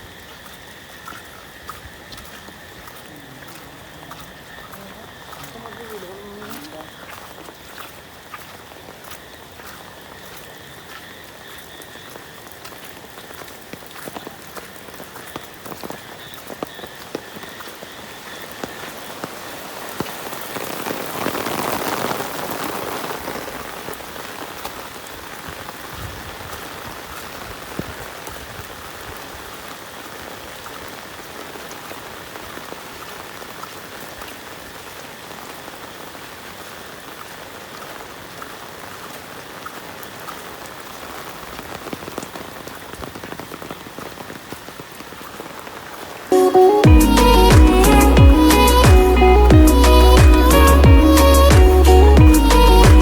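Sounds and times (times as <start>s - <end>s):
rain falling: 0.0s - 53.0s
raindrops ticking close by: 0.0s - 53.0s.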